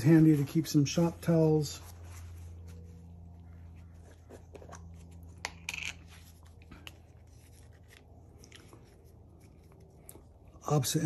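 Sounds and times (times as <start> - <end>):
low steady hum: 0.0 - 11.0
clicks and rubbing of handling: 0.9 - 10.3.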